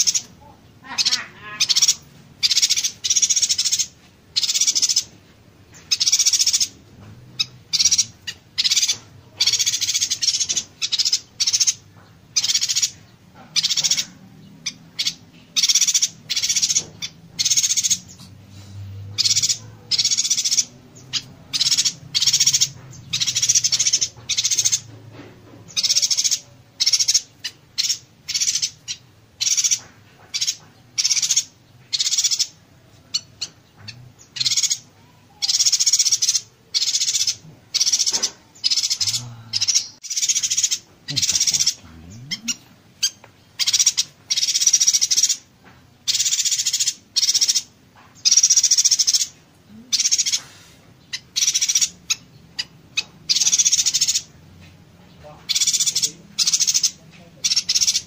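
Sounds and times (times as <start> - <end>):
bird singing buzzy song: 0.0 - 58.0.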